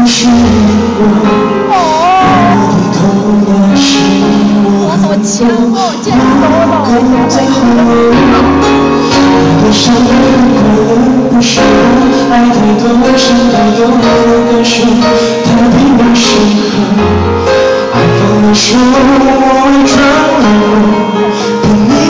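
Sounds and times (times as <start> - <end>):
live band playing pop ballad: 0.0 - 22.0
man singing: 0.0 - 22.0.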